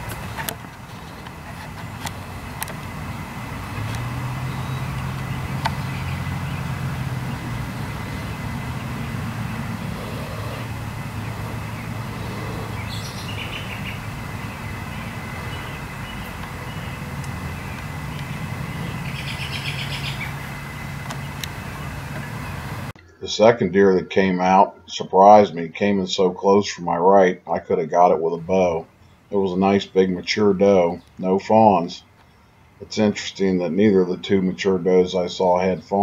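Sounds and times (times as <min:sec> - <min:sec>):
steady low drone: 0:00.0 - 0:32.0.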